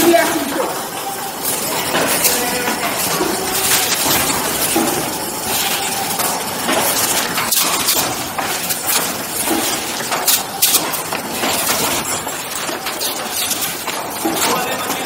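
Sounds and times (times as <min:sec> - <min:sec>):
box-forming machine clatter: 0:00.0 - 0:15.0.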